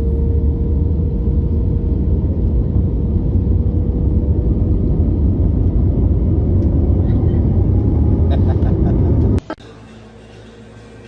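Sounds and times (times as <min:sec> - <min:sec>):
aircraft engine drone in cabin: 0:00.0 - 0:11.0
faint constant hum: 0:00.0 - 0:11.0.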